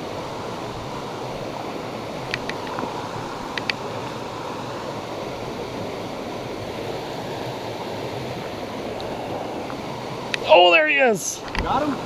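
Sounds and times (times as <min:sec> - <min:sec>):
brook water rushing: 0:00.0 - 0:12.0.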